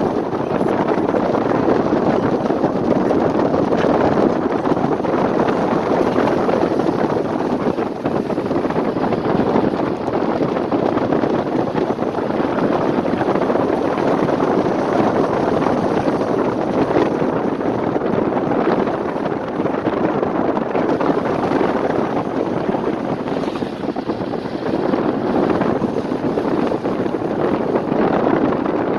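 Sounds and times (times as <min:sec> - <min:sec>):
car road and wind noise: 0:00.0 - 0:28.9.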